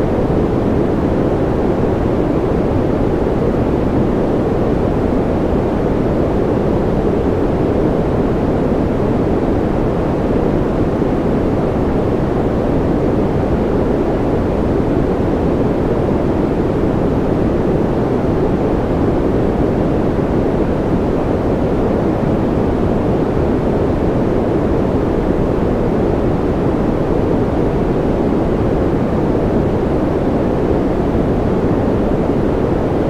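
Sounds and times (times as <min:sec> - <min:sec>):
deep white noise: 0:00.0 - 0:33.0.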